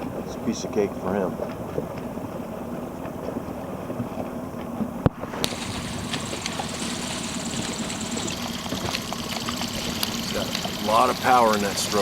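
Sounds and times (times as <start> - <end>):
motorboat engine running: 0.0 - 12.0
water noise: 0.0 - 12.0
wind: 0.0 - 12.0.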